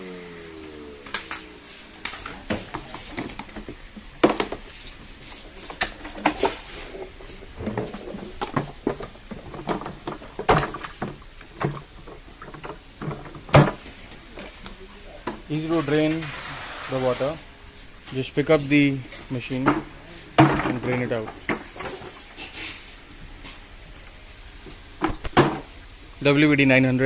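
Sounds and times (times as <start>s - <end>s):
vacuum parts clattering: 1.0s - 17.3s, 18.0s - 25.8s.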